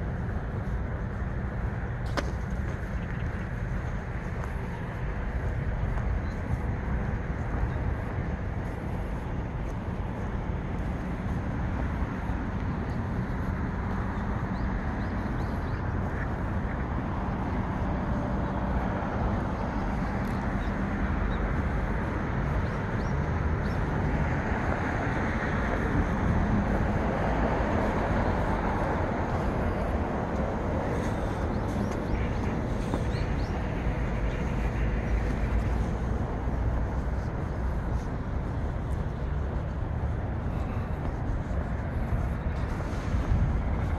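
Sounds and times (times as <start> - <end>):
distant road traffic: 0.0 - 43.9
wind rumble on microphone: 0.0 - 43.9.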